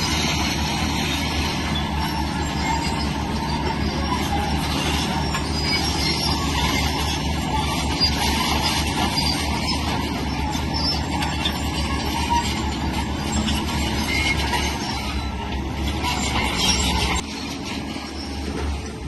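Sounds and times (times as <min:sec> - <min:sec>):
diesel engine running: 0:00.0 - 0:19.0
steel tracks clanking and squealing: 0:00.0 - 0:19.0.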